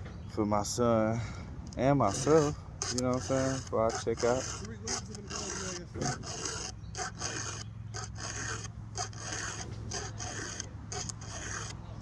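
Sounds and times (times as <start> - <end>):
hand file rasping on chain: 1.7 - 12.0.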